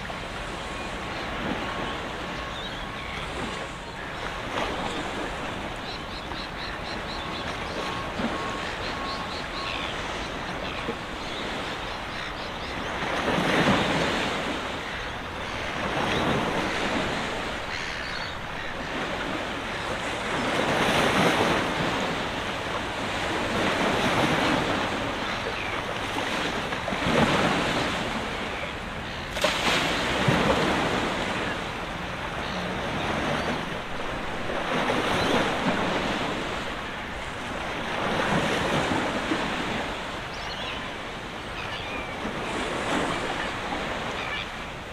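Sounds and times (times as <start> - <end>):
small waves washing on shore: 0.0 - 44.9.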